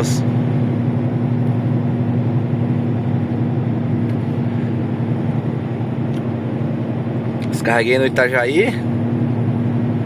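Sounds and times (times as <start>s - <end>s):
truck diesel engine droning: 0.0s - 10.0s.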